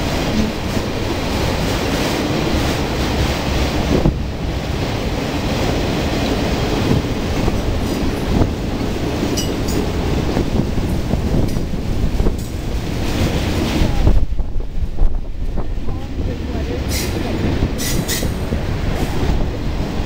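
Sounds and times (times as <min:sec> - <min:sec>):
train clunks: 0:00.0 - 0:20.0
train wheels rumbling on rail: 0:00.0 - 0:20.0
wind buffeting microphone: 0:00.0 - 0:20.0.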